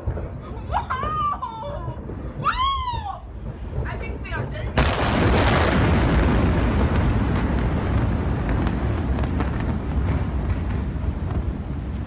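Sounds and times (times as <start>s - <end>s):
explosion rumble: 0.0s - 12.0s.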